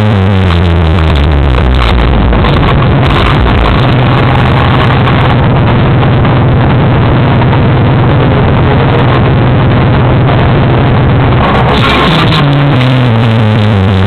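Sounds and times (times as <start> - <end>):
distorted car stereo bass tone: 0.0 - 14.0.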